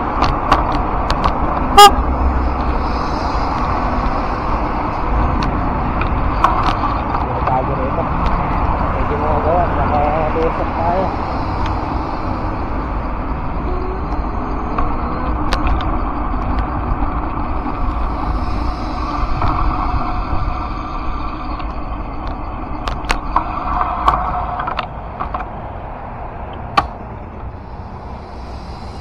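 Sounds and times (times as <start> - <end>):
sharp clicks and rattles: 0.0 - 13.4, 14.0 - 25.6
low rumble of vehicle on road: 0.0 - 29.0.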